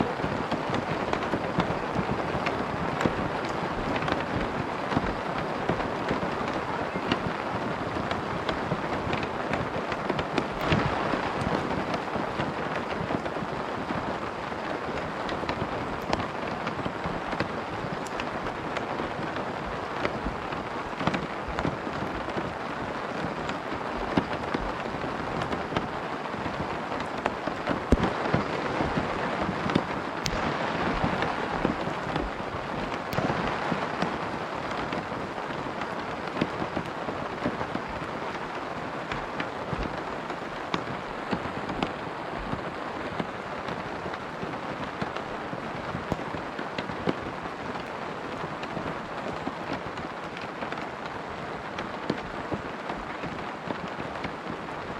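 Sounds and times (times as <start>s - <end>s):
rain pattering on a tent: 0.0s - 54.9s.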